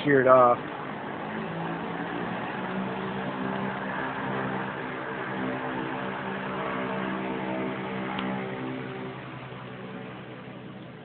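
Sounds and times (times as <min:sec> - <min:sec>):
engine droning steadily: 0:00.0 - 0:11.0.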